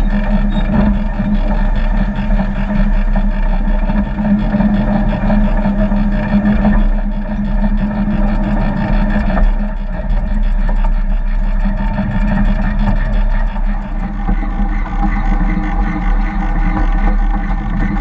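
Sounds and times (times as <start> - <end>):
miniature train running on track: 0.0 - 18.0.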